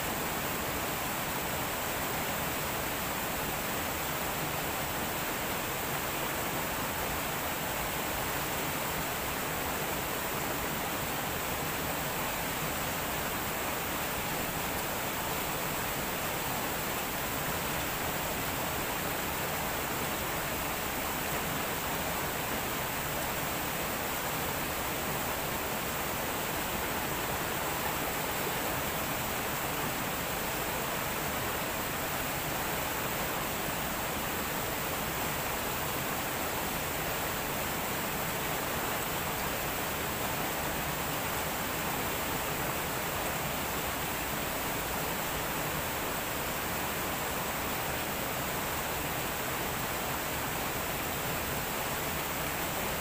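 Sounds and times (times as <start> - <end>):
river water running over rocks: 0.0 - 53.0.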